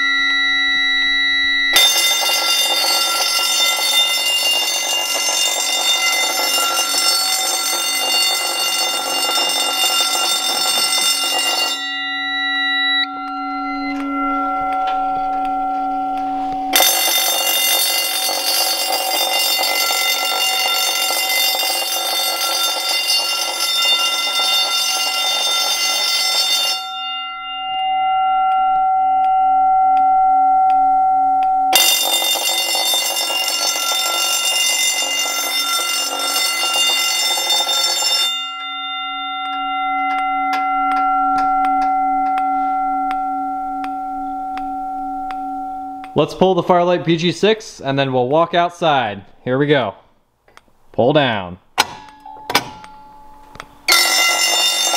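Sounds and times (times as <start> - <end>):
gong ringing tone: 0.0 - 47.0, 52.2 - 54.9
fire alarm bell ringing: 0.0 - 48.0, 52.2 - 54.9.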